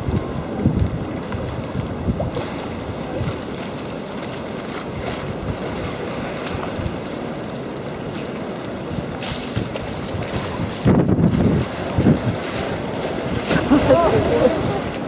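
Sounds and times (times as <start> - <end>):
wind on microphone: 0.0 - 7.2, 8.0 - 15.0.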